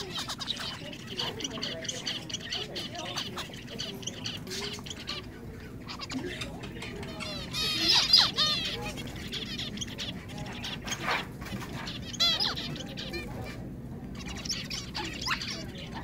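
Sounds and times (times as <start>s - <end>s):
finches chirping: 0.0s - 16.0s.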